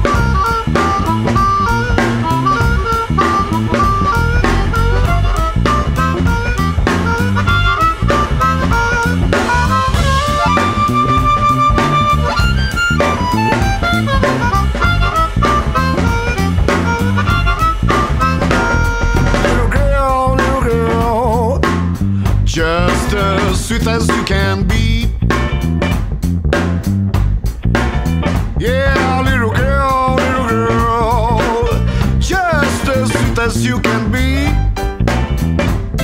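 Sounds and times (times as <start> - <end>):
blues harmonica solo: 0.0 - 26.3, 28.0 - 34.6
drums and bass: 0.0 - 36.0.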